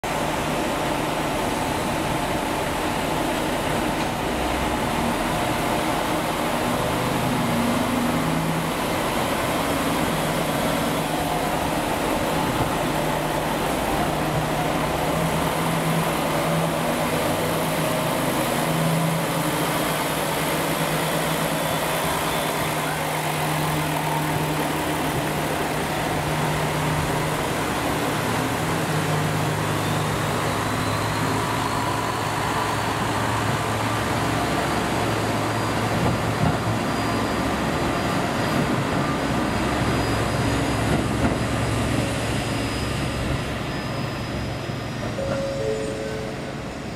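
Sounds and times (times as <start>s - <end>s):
train diesel engines idling: 0.1s - 46.9s.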